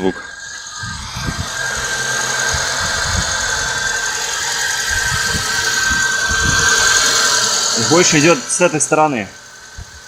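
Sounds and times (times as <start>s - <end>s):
car engine idling: 0.0s - 10.0s
clutch bearing whistling howl: 0.0s - 10.0s.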